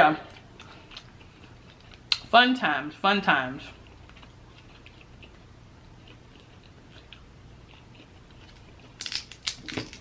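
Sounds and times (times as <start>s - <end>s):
low steady background hum: 0.0s - 10.0s
person chewing food: 0.2s - 2.3s, 3.8s - 10.0s.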